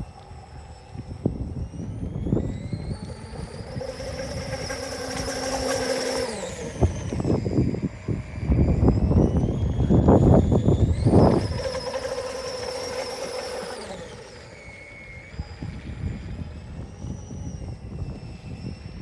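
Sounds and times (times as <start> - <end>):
model speedboat gear whine: 0.0 - 19.0
wind buffeting microphone: 0.0 - 19.0.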